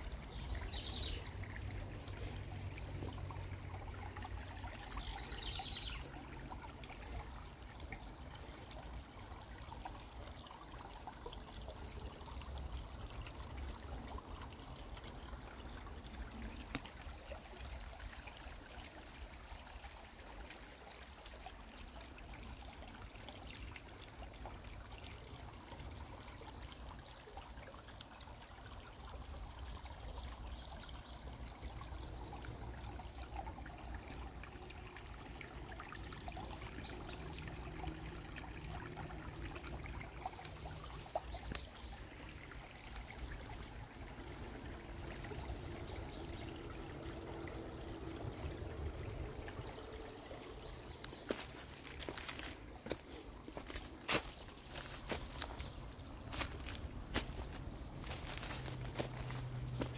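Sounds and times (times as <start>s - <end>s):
creek water babbling over rocks: 0.0s - 59.9s.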